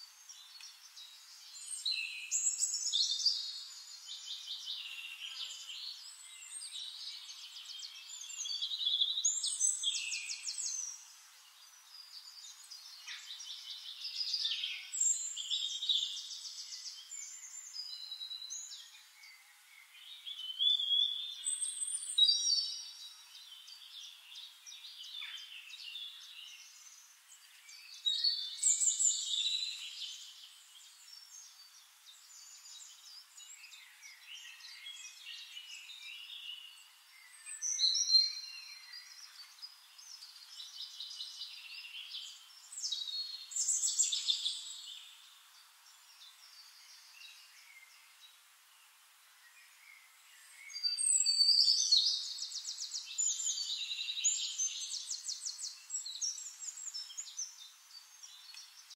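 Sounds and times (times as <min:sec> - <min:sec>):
quiet bird chirping: 0:00.0 - 0:58.9
songbirds singing: 0:00.0 - 0:58.9.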